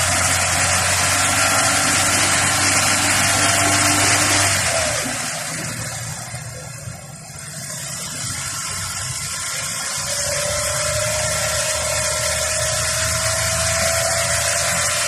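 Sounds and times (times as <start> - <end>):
car engine running: 0.0 - 15.0
rising whine: 0.0 - 15.0.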